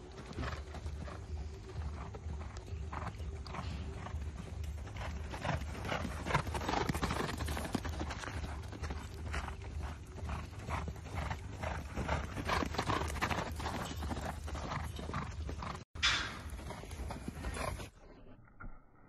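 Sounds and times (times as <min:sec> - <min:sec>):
horse hoofbeats on sand: 0:00.0 - 0:18.0.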